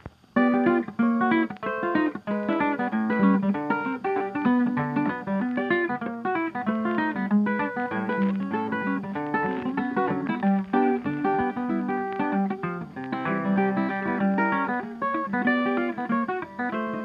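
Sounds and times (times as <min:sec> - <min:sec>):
plucked guitar music: 0:00.0 - 0:17.0.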